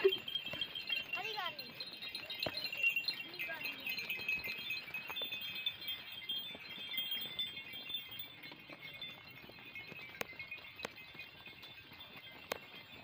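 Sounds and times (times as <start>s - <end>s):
goats and sheep moving: 0.0s - 13.0s
high tinkling: 0.0s - 13.0s.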